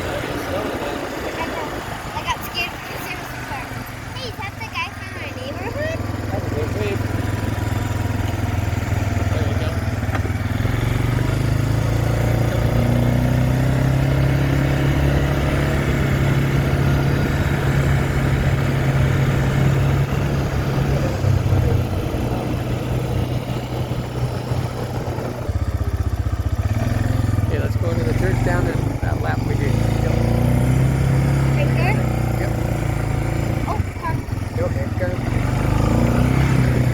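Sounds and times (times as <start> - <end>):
vehicle engine running: 0.0 - 36.9.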